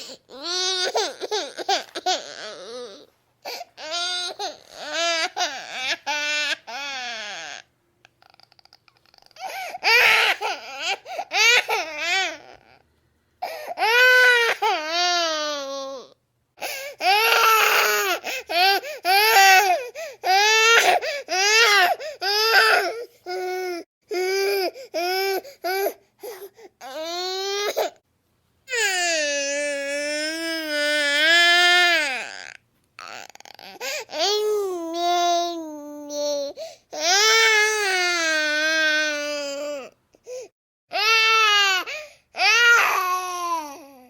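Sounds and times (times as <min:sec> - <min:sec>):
baby crying: 0:00.0 - 0:12.8, 0:13.4 - 0:28.0, 0:28.7 - 0:44.0.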